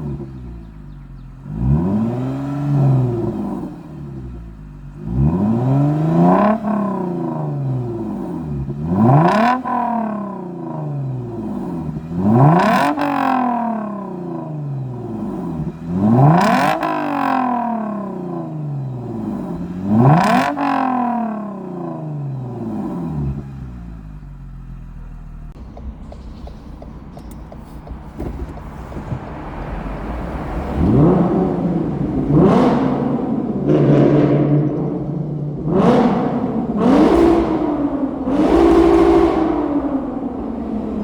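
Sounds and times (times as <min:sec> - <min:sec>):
car engine idling: 0:00.0 - 0:41.0
car engine revving: 0:00.0 - 0:41.0.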